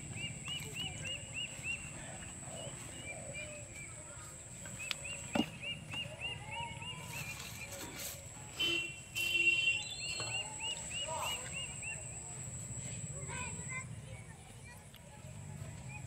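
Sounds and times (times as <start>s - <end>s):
bird chirping: 0.0s - 13.8s.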